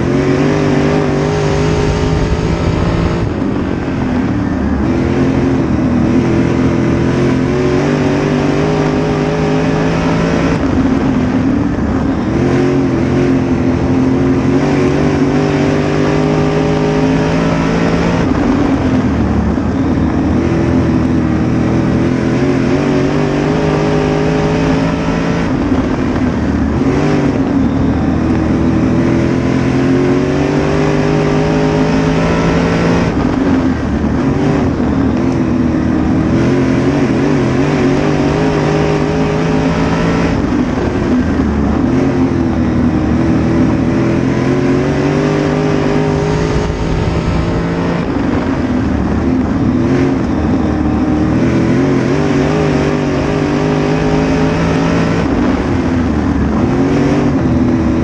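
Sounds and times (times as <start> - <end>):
race car engine: 0.0 - 58.0
tyre and dirt track noise: 0.0 - 58.0.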